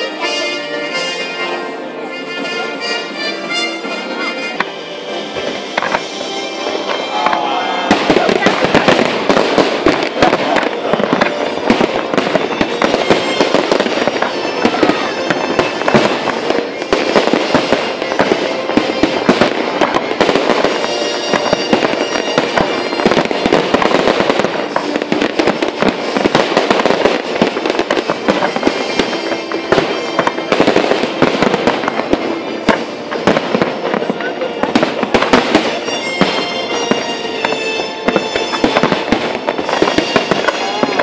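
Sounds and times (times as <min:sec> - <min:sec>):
fireworks bursts and crackling: 0:00.0 - 0:41.0.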